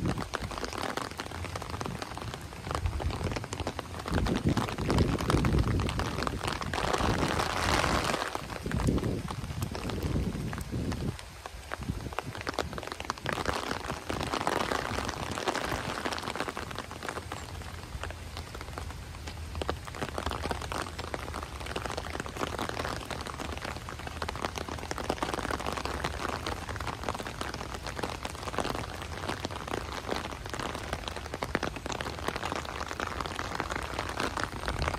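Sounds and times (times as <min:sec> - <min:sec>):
rain pattering on an umbrella: 0:00.0 - 0:34.9.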